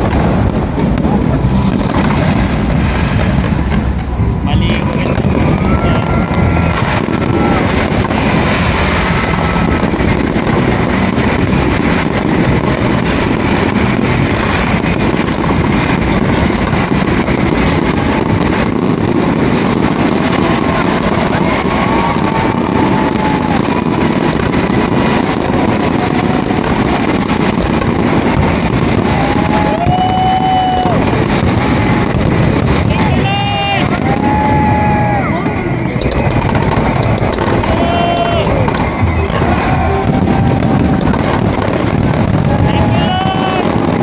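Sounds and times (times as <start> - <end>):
firecrackers crackling: 0.0 - 44.0.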